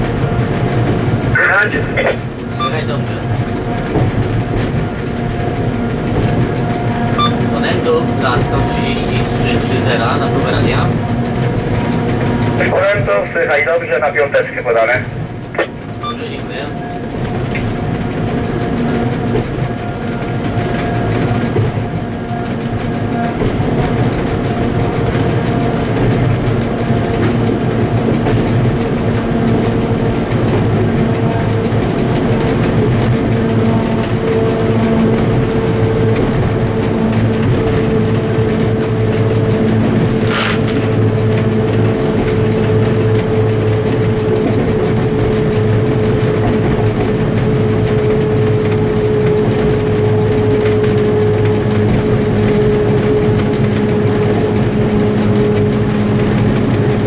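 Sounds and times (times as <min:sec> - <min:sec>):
diesel locomotive engine droning: 0:00.0 - 0:57.0
train rolling on track: 0:00.0 - 0:57.0.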